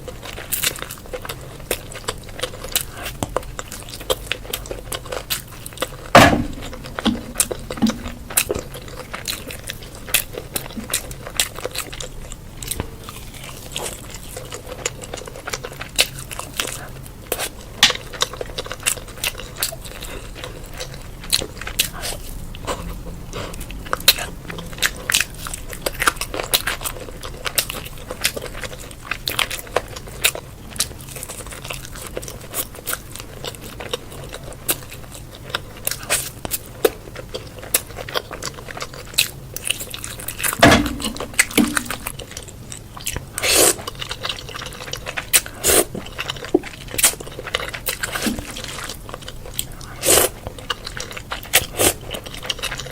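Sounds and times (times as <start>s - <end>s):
chewing and biting: 0.0s - 52.9s.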